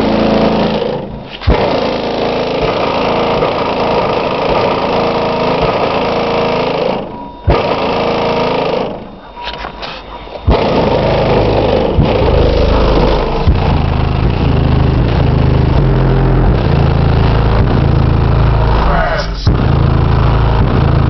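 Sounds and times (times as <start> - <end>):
car stereo music with deep bass: 0.0 - 21.0.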